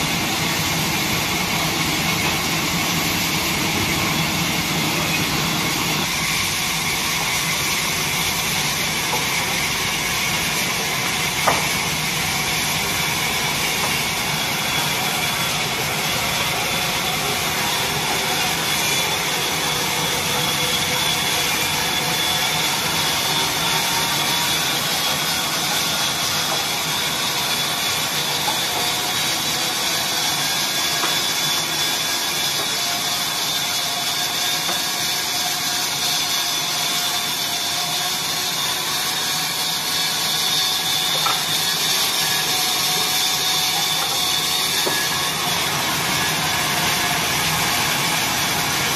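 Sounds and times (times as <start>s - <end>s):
band saw cutting log: 0.0s - 48.9s.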